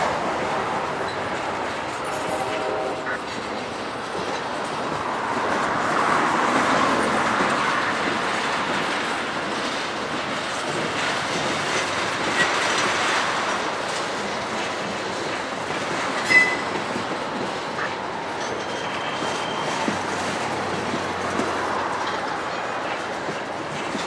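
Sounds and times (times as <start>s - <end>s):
train wheels rumbling on rail: 0.0s - 24.0s
wheels clicking over rail joints: 3.2s - 24.0s.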